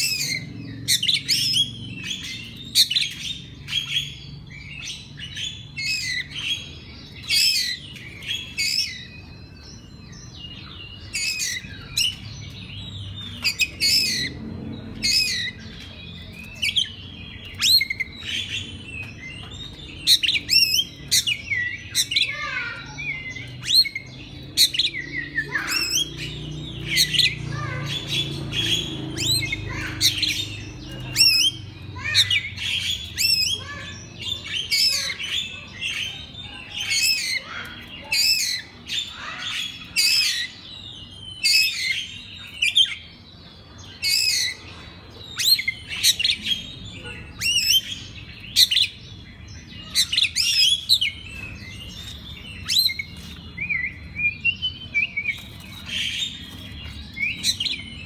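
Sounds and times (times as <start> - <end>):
songbird whistling and chirping: 0.0 - 58.0.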